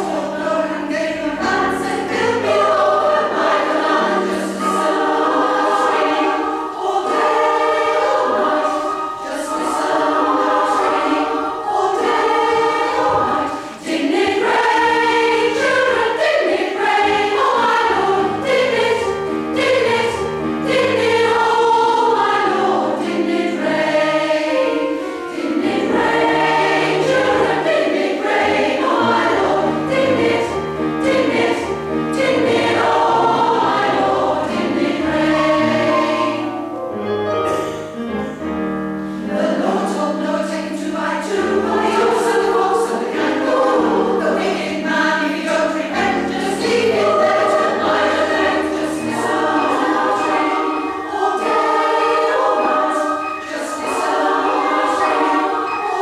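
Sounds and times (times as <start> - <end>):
women's choir singing: 0.0 - 36.8, 39.0 - 56.0.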